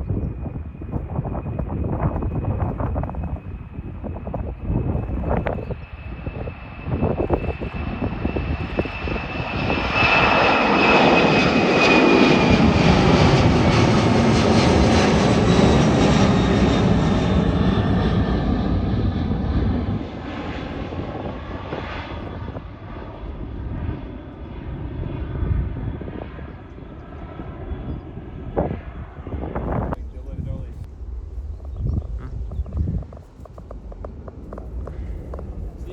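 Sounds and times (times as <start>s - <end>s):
distant jet rumble: 0.0s - 35.9s
jet engines passing overhead: 0.0s - 35.9s.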